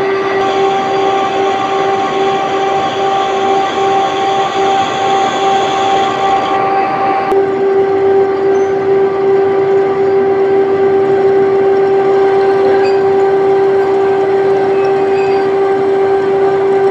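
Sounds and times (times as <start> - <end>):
workshop machinery droning: 0.0 - 16.9.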